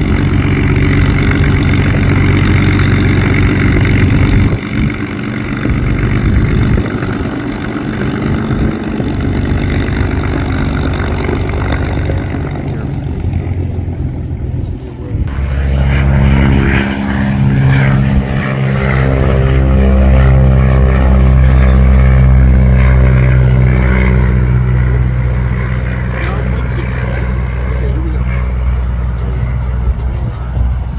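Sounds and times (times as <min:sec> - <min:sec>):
deep engine drone: 0:00.0 - 0:30.9
propeller aircraft engine: 0:00.0 - 0:30.9.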